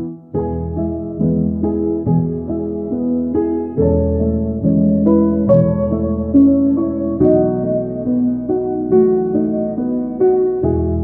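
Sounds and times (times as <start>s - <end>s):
soft slow instrumental melody: 0.0s - 11.0s.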